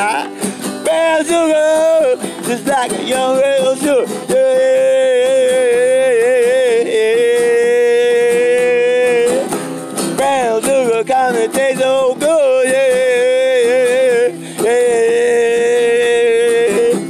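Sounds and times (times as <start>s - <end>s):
guitar accompaniment: 0.0s - 17.0s
person singing without words: 0.0s - 17.0s.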